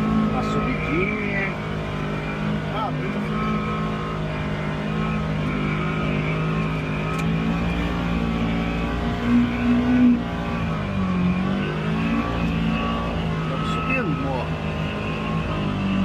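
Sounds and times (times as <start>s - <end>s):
utility vehicle engine under load: 0.0s - 16.0s.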